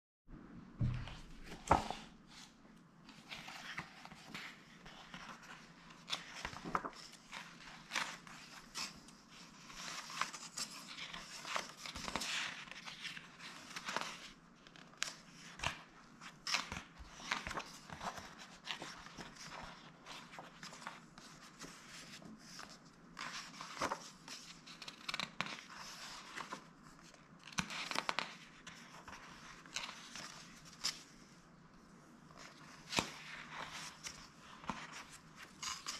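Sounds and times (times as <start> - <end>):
book pages rustling and flicking: 0.8 - 31.3, 32.2 - 35.9.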